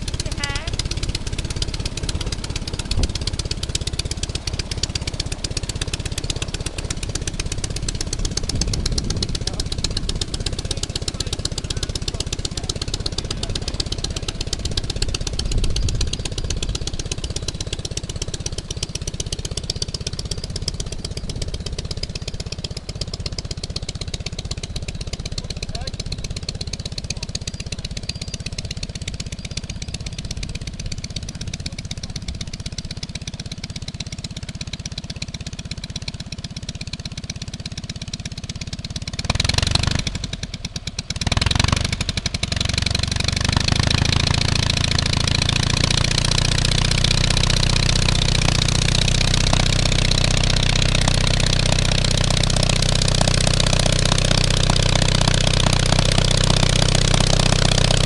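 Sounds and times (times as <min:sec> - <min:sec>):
propeller plane engine running: 0:00.0 - 0:58.0.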